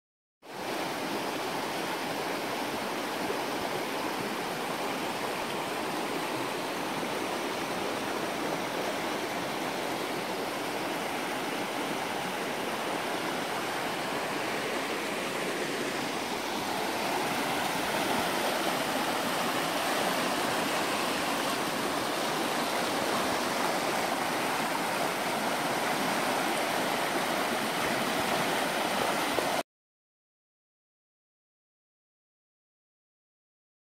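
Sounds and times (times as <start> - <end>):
stream rushing over rocks: 0.5 - 29.6.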